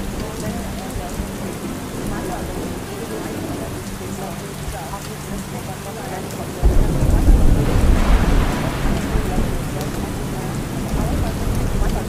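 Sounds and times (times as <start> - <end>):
rainfall hiss: 0.0 - 12.0
thunder rumbling: 0.0 - 12.0.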